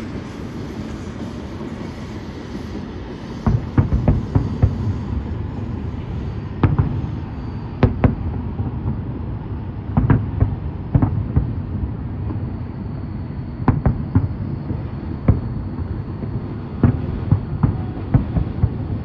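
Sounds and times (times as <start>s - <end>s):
fireworks bangs: 0.0s - 12.9s, 13.5s - 19.0s.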